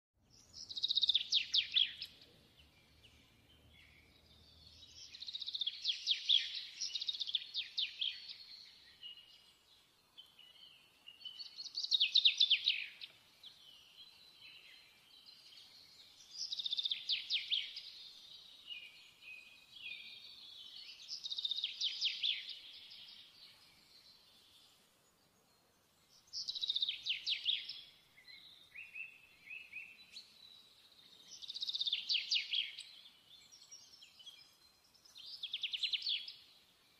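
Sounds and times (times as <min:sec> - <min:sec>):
songbird singing high trills: 0:00.3 - 0:24.8, 0:25.4 - 0:36.9.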